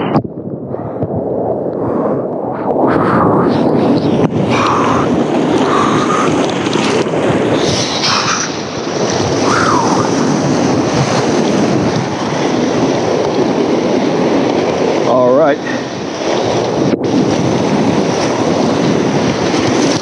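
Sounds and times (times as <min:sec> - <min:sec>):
whitewater rapids roaring: 0:02.9 - 0:20.0.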